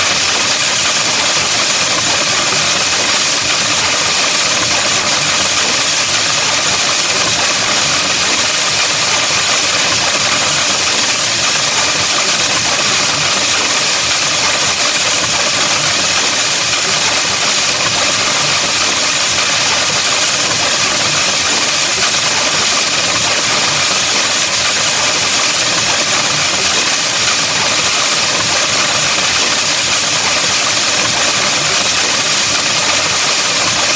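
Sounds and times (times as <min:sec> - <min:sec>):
harsh electronic buzzing drone: 0:00.0 - 0:33.9.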